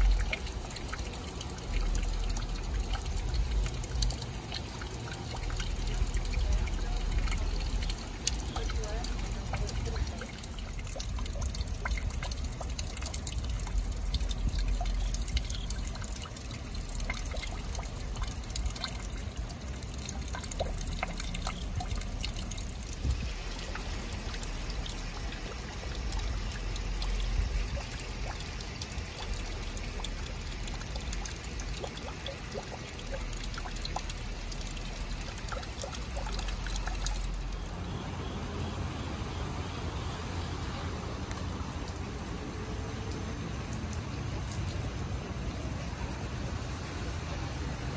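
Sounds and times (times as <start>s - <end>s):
fountain water splashing into pool: 0.0s - 47.9s.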